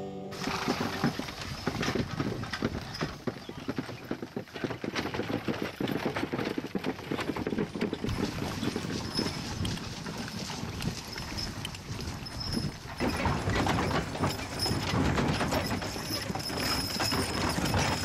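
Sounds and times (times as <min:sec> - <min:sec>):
horse hooves clip-clopping on grass: 0:00.4 - 0:18.0.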